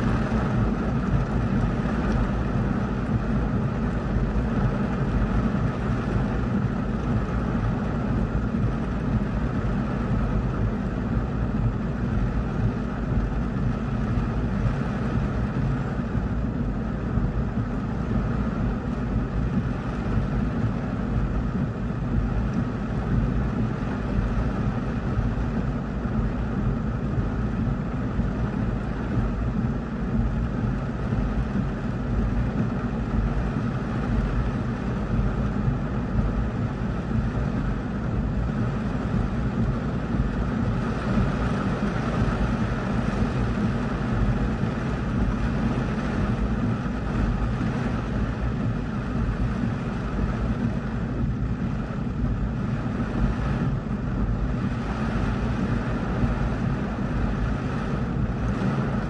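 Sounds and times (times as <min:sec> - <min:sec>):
heavy rain pounding on car roof: 0:00.0 - 0:59.0.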